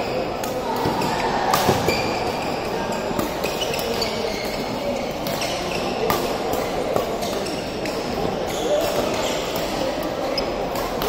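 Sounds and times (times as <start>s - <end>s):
voices in sports hall: 0.0s - 11.0s
rackets hitting shuttlecock: 0.1s - 11.0s.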